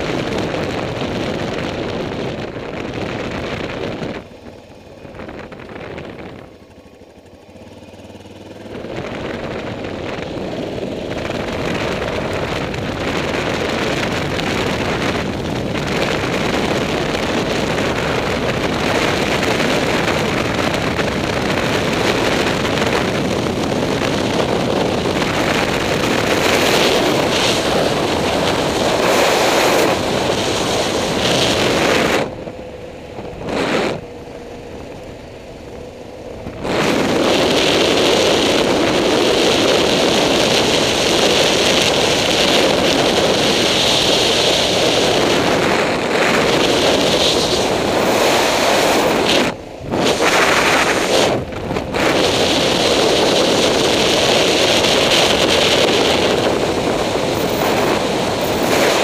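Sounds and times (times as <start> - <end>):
wind rushing over microphone: 0.0 - 7.3, 8.0 - 59.0
motorcycle engine running: 0.0 - 59.0.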